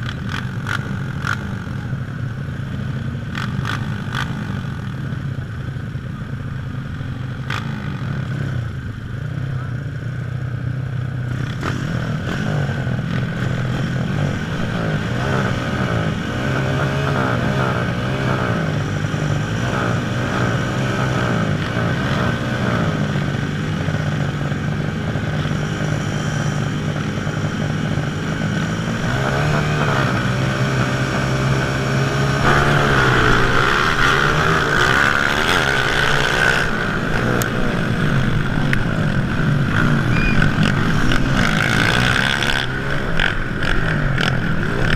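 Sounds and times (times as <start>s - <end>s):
motocross bikes revving: 0.0s - 44.9s.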